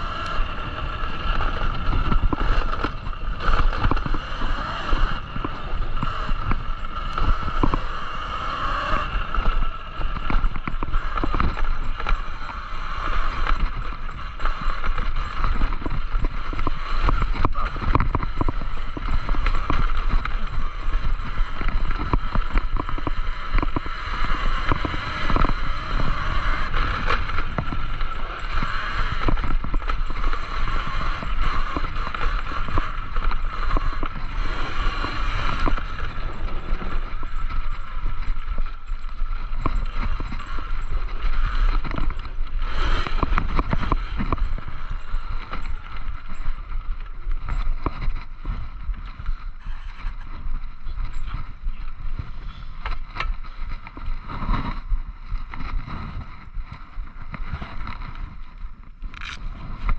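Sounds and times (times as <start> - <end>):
dirt bike riding noise: 0.0 - 59.9
wind rumble on microphone: 0.0 - 59.9
knocks and rattles: 0.6 - 54.8.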